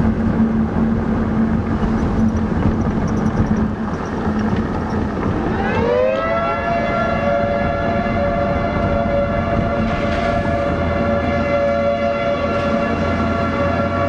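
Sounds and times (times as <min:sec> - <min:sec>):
car engine drone: 0:00.0 - 0:14.0
road and wind noise: 0:00.0 - 0:14.0
warning siren wailing: 0:00.3 - 0:14.0.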